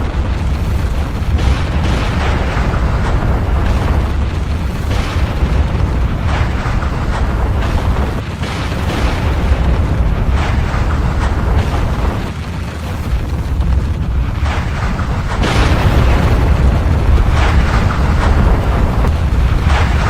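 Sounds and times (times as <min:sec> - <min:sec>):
crackling and popping: 0:00.0 - 0:20.0
volcanic eruption rumble: 0:00.0 - 0:20.0.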